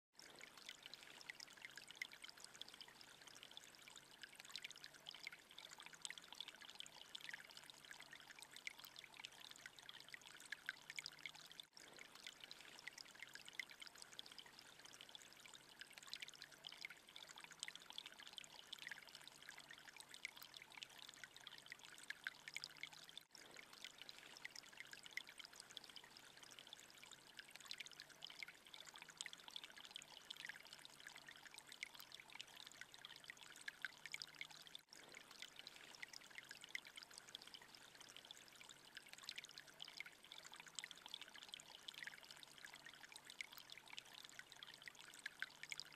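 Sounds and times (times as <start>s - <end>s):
water trickling and dripping: 0.2s - 45.9s.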